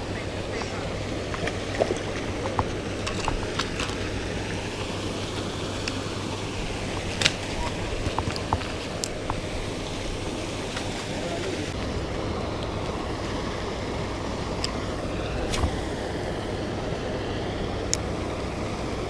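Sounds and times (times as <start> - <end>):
pond water splashing: 0.0 - 19.0
wind: 0.0 - 19.0.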